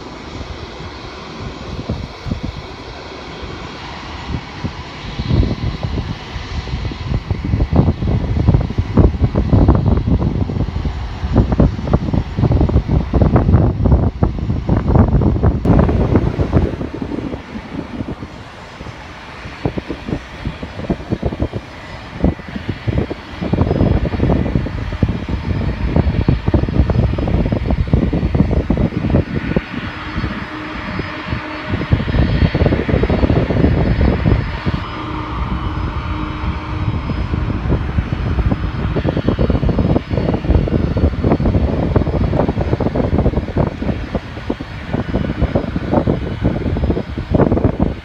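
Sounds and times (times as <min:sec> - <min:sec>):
jet engines rushing: 0:00.0 - 0:48.0
wind buffeting microphone: 0:00.0 - 0:48.0.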